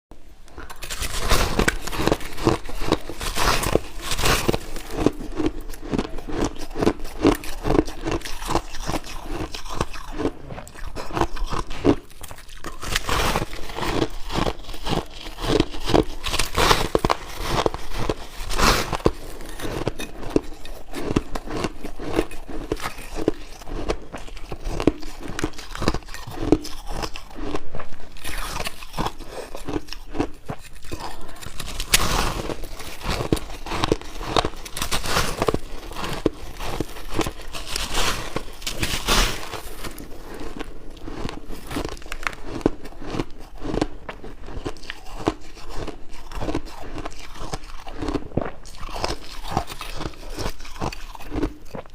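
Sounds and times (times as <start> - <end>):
person chewing ice: 0.5 - 51.9.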